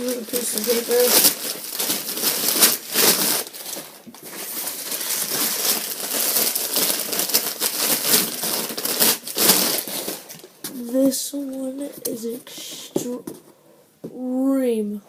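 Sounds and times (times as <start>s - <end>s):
packing paper crinkling: 0.0s - 13.4s.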